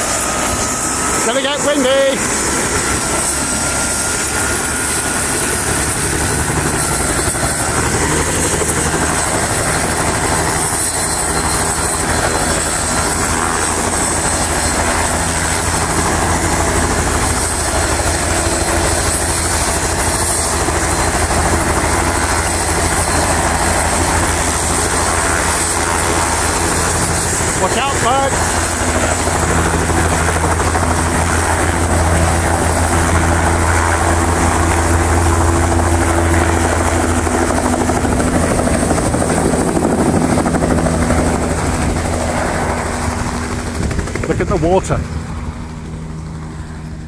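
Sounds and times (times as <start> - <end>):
helicopter rotor beat: 0.0 - 47.0
helicopter turbine whine: 0.0 - 47.0.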